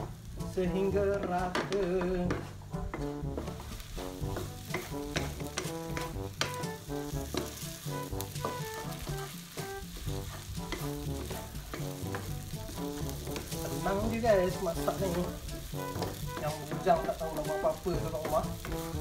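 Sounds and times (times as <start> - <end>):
light background music: 0.0 - 19.0
noodles sizzling in wok: 0.0 - 19.0
wooden spatula scraping pan: 0.0 - 19.0.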